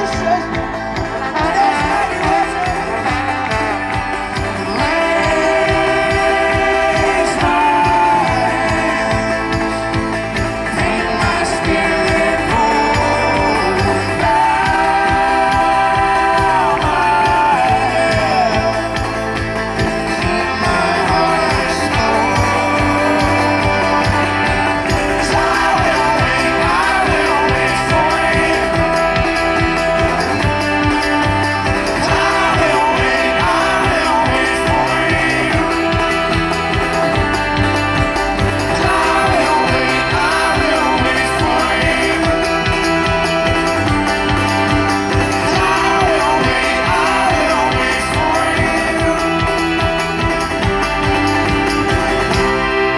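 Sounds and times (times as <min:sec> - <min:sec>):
folk-rock band playing: 0:00.0 - 0:52.9
person singing: 0:00.0 - 0:52.9.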